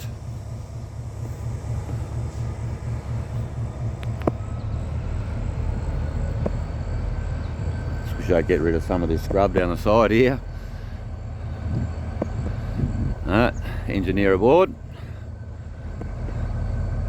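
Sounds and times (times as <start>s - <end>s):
diesel locomotive engine rumbling: 0.0s - 17.0s.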